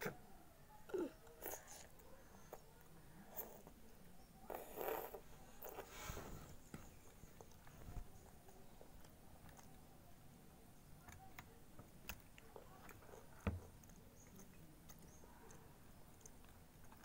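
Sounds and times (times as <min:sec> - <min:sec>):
child chewing: 0:00.9 - 0:03.8, 0:04.5 - 0:17.0.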